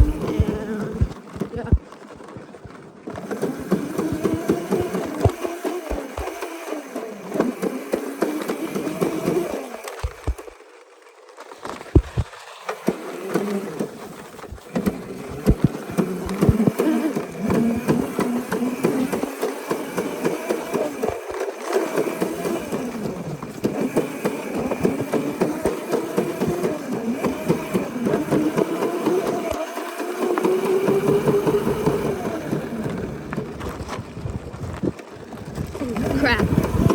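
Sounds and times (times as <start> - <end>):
sharp knocks and rattles: 0.0 - 10.6, 11.7 - 36.9
small dirt bike engine buzzing: 0.0 - 36.9.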